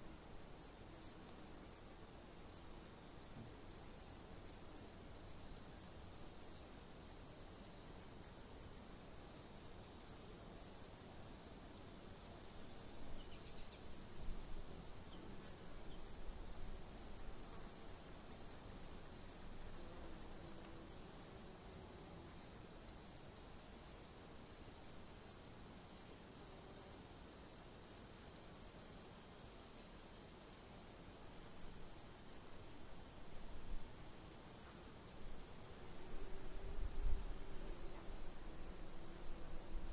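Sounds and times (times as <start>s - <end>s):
cricket chirping: 7.8s - 39.9s.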